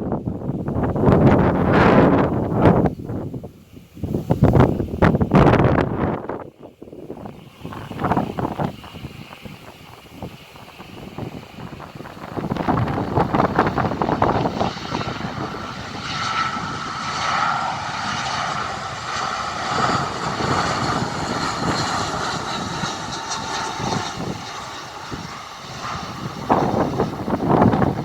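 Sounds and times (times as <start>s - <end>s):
airliner engines two-tone whine: 0.0s - 28.0s
wind gusts buffeting microphone: 0.0s - 28.0s.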